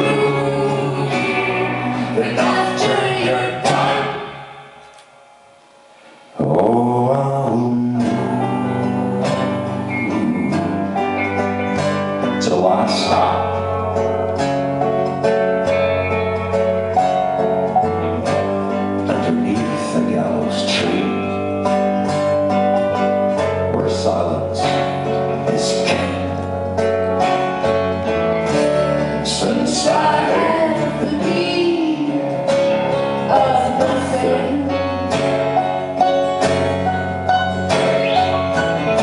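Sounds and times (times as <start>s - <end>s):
bass line: 0.0s - 4.6s, 6.4s - 39.0s
live band music: 0.0s - 6.6s, 7.3s - 39.0s
plucked strings: 7.1s - 39.0s.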